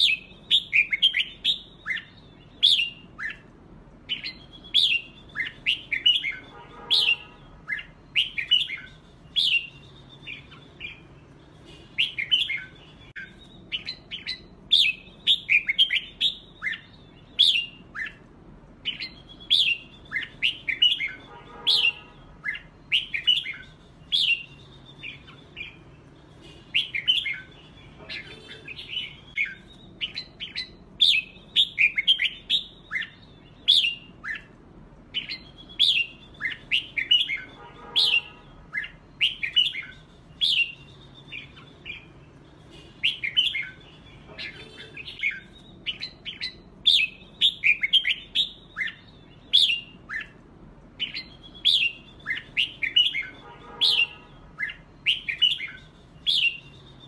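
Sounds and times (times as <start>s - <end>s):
birds singing whistled phrases: 0.0s - 57.0s.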